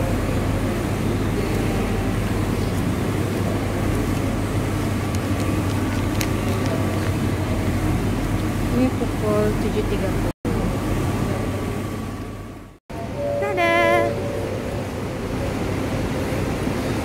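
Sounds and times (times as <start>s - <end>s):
waiting hall hum: 0.0s - 17.0s.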